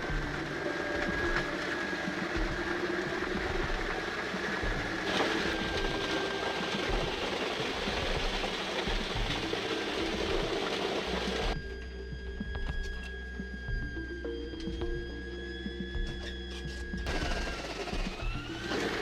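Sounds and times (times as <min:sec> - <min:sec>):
wood-processing machine whining: 0:00.0 - 0:12.1, 0:14.2 - 0:19.0.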